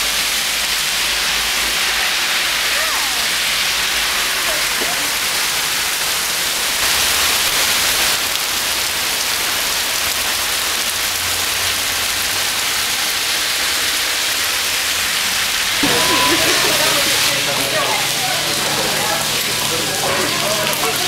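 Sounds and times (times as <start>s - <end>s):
heavy rain pouring on street: 0.0s - 21.0s.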